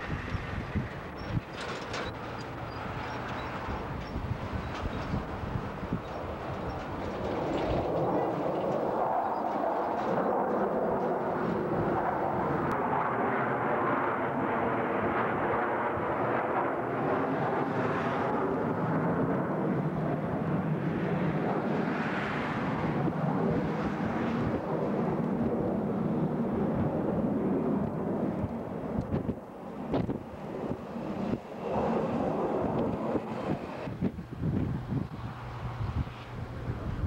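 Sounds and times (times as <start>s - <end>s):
jet engines passing overhead: 0.0s - 37.0s.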